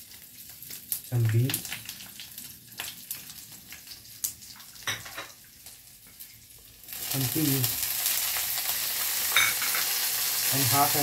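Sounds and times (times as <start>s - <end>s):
oil crackling: 0.0s - 11.0s
vegetables sizzling in hot oil: 0.0s - 11.0s.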